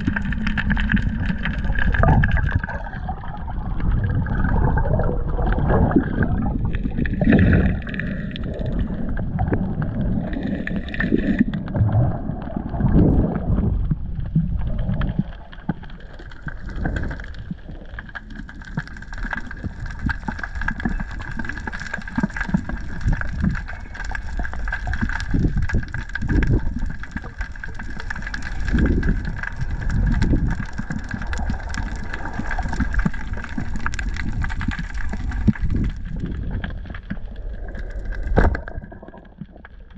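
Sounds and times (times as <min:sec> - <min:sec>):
underwater water sloshing: 0:00.0 - 0:39.9.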